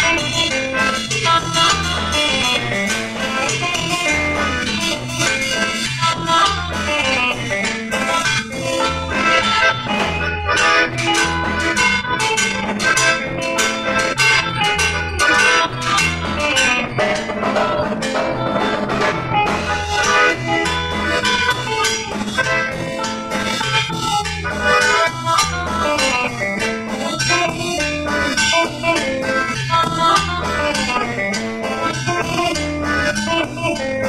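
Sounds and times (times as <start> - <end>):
cumbia band playing: 0.0 - 34.0.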